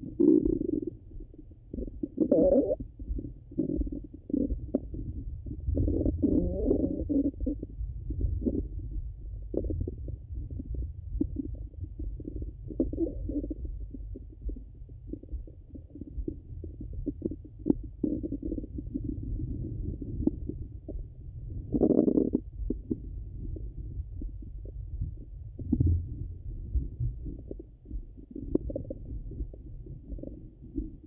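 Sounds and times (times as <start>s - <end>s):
low stomach rumble: 0.0s - 31.0s
bowel gurgles and clicks: 1.7s - 31.0s.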